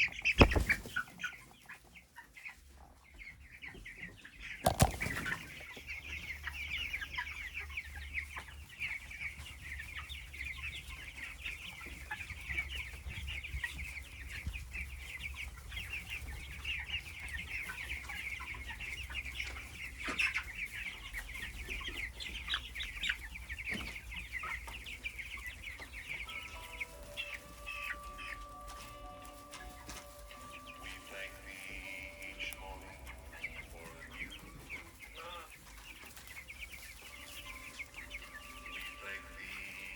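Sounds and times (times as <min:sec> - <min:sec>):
chicks cheeping: 0:00.0 - 0:39.9
music with held notes: 0:05.2 - 0:39.9.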